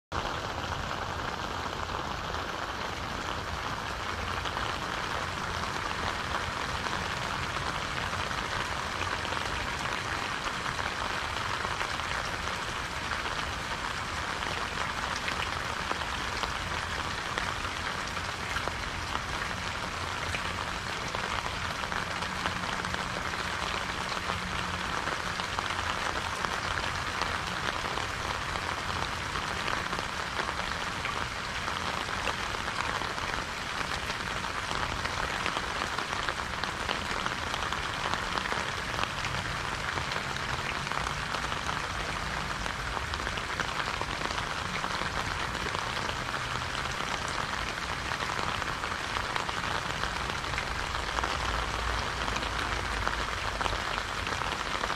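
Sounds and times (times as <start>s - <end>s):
steady rain falling: 0.1s - 54.9s.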